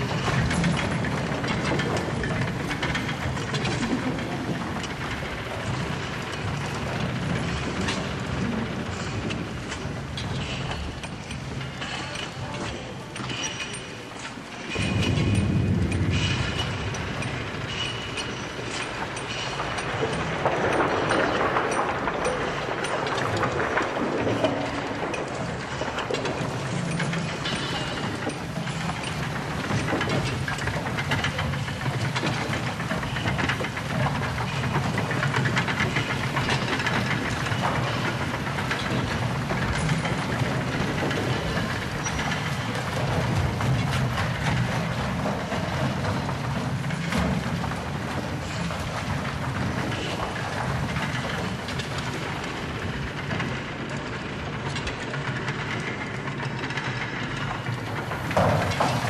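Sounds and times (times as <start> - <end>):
mine train rumbling and rattling: 0.0 - 59.0
wheels clattering on rails: 0.0 - 59.0.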